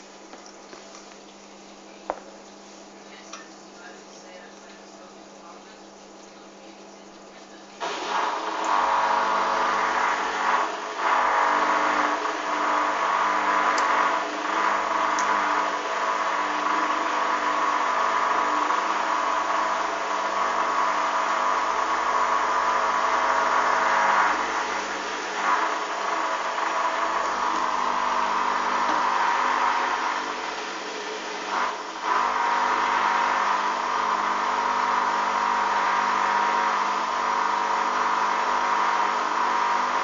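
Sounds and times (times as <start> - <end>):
washing machine motor humming: 0.0 - 40.0.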